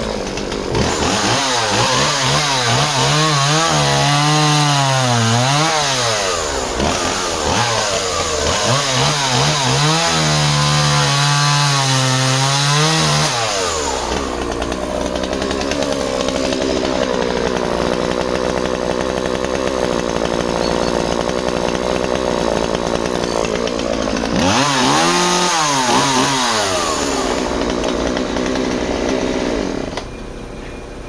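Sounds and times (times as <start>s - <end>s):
chainsaw cutting timber: 0.0s - 30.1s.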